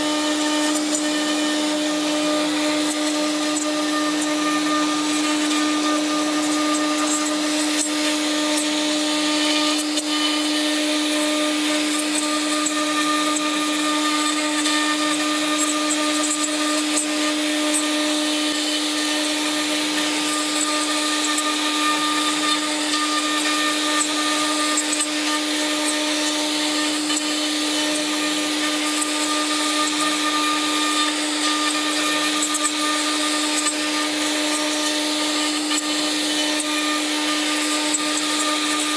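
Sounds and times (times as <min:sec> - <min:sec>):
router spindle high hum: 0:00.0 - 0:38.9.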